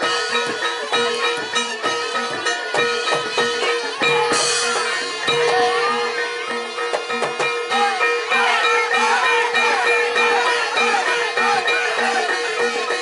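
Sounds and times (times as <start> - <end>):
metallophones: 0.0 - 13.0.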